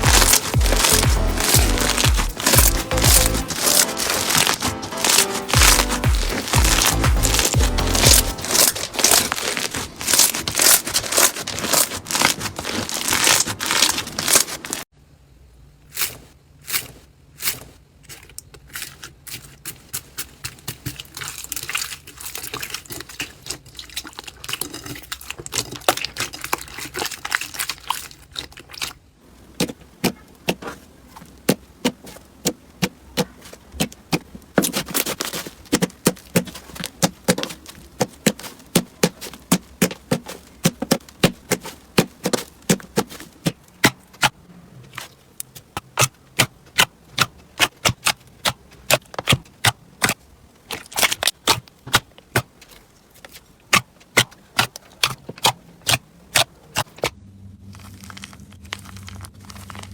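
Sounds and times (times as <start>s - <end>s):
slime crackling and popping: 0.0s - 14.9s, 16.0s - 59.9s.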